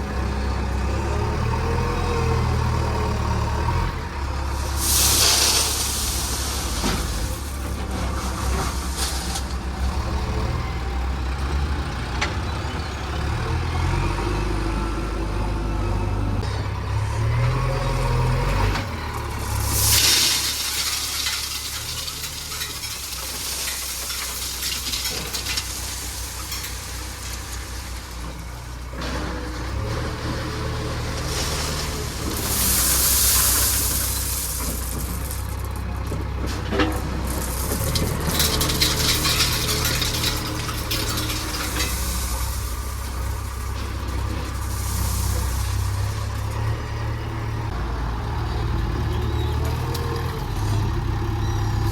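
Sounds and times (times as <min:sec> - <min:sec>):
diesel engine working: 0:00.0 - 0:51.9.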